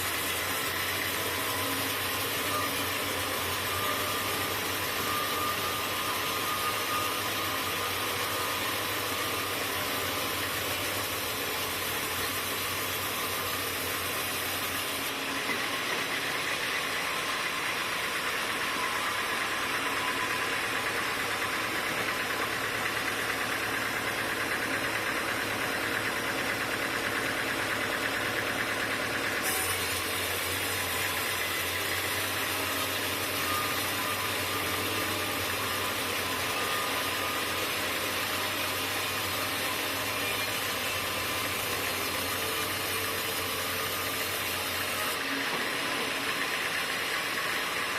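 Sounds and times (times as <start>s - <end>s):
sawmill machinery humming and whining: 0.0s - 47.9s.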